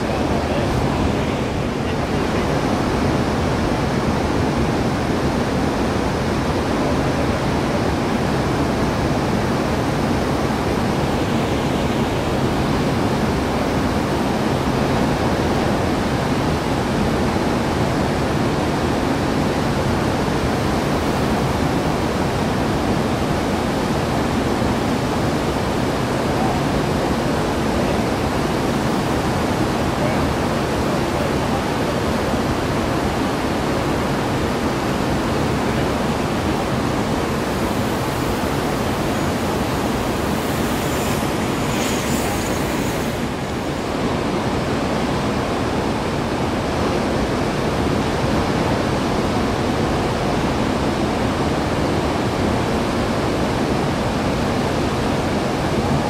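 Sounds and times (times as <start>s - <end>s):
ocean surf breaking: 0.0s - 48.6s.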